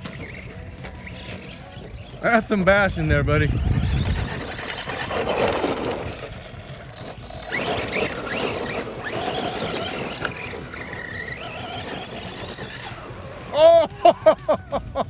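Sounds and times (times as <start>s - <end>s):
electric motors whining: 0.0s - 15.0s
tyre and wind noise: 0.0s - 15.0s.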